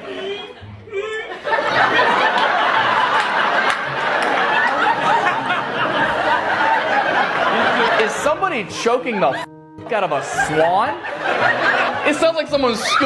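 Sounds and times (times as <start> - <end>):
audience laughing: 0.0 - 13.0.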